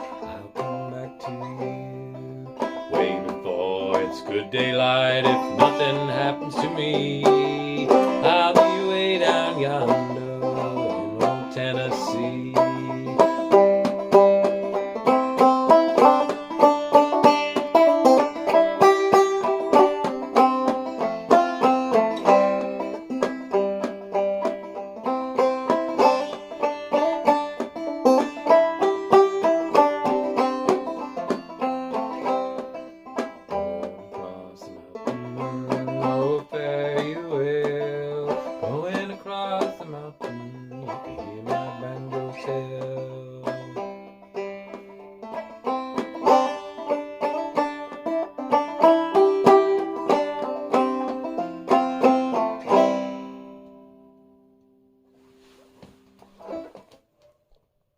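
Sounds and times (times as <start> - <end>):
banjo plucking: 0.0 - 54.6, 55.5 - 57.1.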